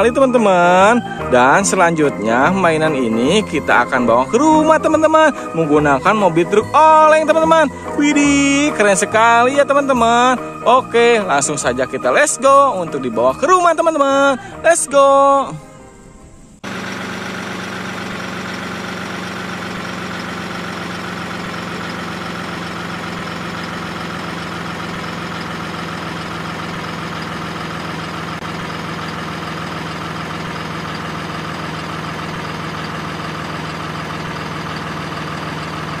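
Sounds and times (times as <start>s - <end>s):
truck engine idling: 0.0s - 15.2s, 16.4s - 36.0s.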